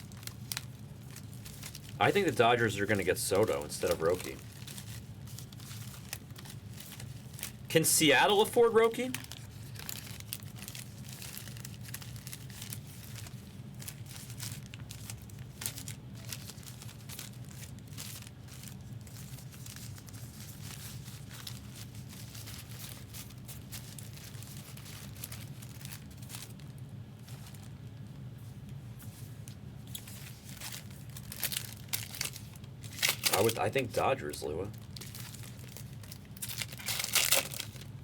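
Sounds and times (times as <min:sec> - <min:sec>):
foil wrappers crinkling and tearing: 0:00.0 - 0:38.0
steady low hum: 0:00.0 - 0:38.0.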